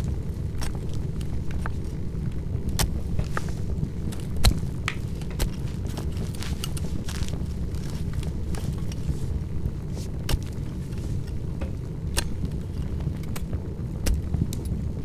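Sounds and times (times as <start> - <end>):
bonfire rumble: 0.0 - 15.0
fire crackling and popping: 0.0 - 15.0.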